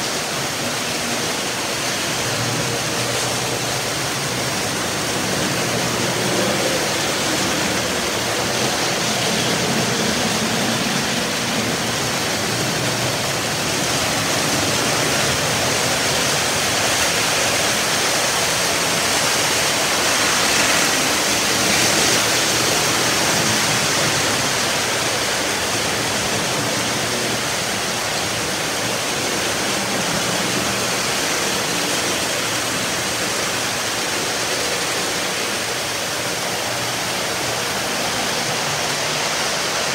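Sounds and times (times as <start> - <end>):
model trains rumbling: 0.0 - 39.9.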